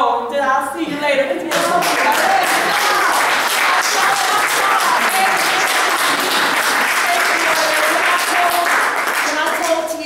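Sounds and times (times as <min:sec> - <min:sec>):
crowd clapping: 0:01.5 - 0:10.0.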